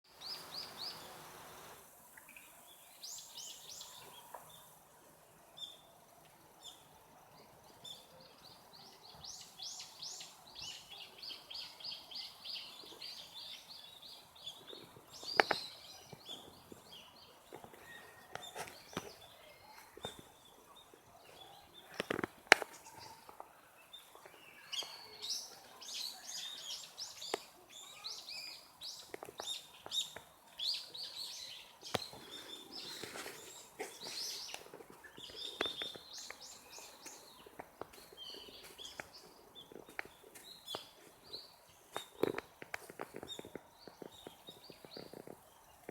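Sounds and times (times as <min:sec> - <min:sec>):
songbirds chirping: 0:00.1 - 0:45.9.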